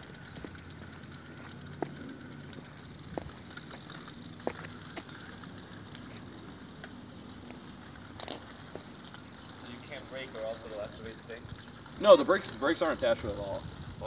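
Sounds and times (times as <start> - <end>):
bicycle chain rattling: 0.0 - 14.0.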